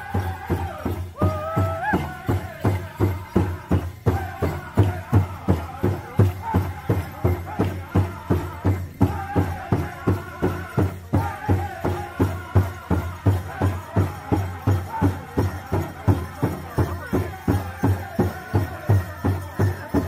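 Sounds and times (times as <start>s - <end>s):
big drum steady beat: 0.0s - 20.0s
group of singers singing: 0.0s - 20.0s.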